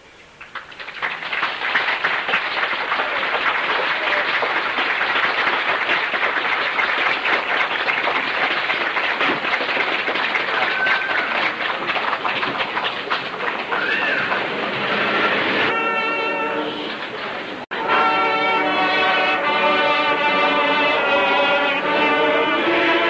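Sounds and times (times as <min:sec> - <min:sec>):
audience applauding: 0:00.2 - 0:23.0.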